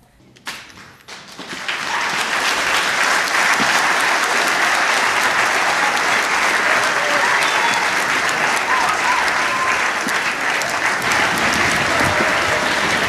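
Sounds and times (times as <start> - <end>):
audience applause: 1.1 - 13.0.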